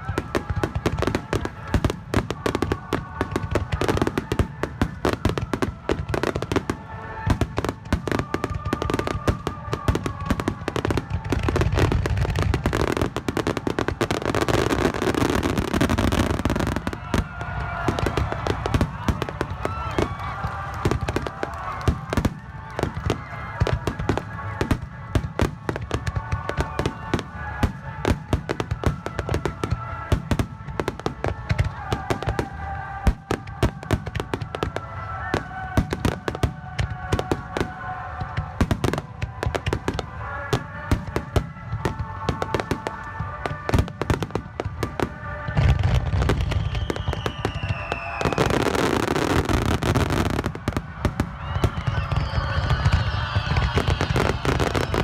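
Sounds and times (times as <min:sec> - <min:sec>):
fireworks booms: 0:00.0 - 0:55.0
fireworks crackling and popping: 0:00.0 - 0:55.0.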